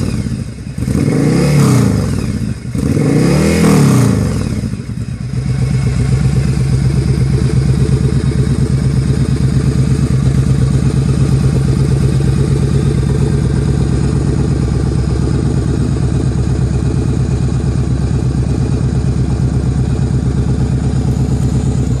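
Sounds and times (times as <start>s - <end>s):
motorcycle idling: 0.0s - 22.0s.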